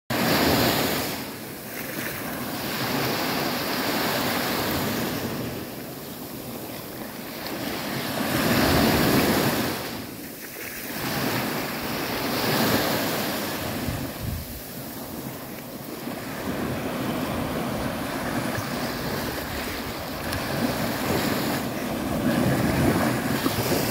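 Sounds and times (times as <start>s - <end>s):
waves breaking on beach: 0.1s - 23.9s.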